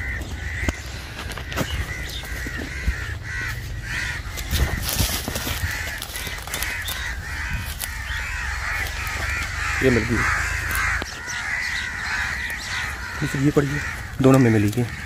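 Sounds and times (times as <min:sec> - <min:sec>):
bird calling repeatedly: 0:00.0 - 0:15.0
footsteps through grass: 0:00.0 - 0:15.0.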